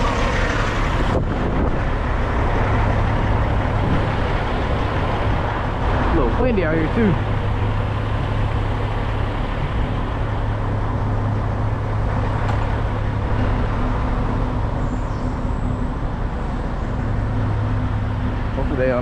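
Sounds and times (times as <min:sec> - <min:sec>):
diesel truck engine humming: 0:00.0 - 0:19.0.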